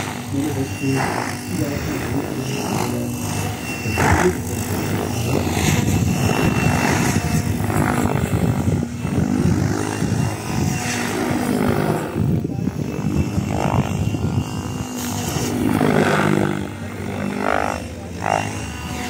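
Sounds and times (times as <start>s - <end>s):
model helicopter rotor: 0.0s - 19.0s.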